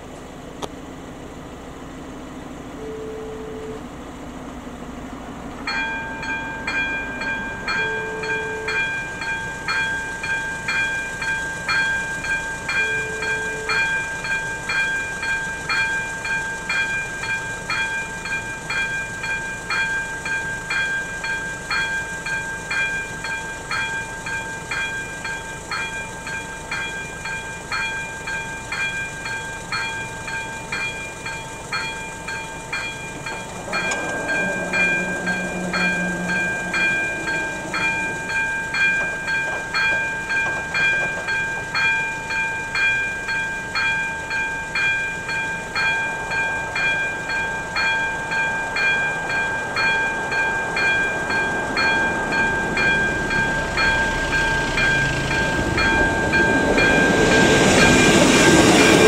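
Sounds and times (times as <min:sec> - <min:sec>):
level crossing bell ringing: 0:05.7 - 0:59.0.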